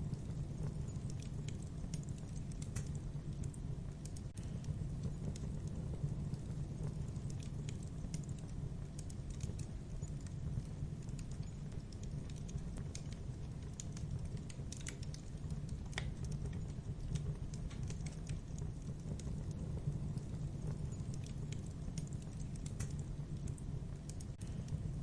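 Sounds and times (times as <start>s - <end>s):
logs crackling in fireplace: 0.0s - 25.0s
low fire rumble: 0.0s - 25.0s.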